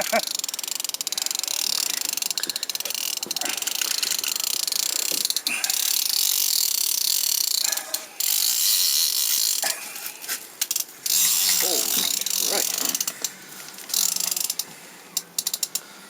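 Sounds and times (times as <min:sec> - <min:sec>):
fishing reel ratcheting: 0:00.0 - 0:15.9.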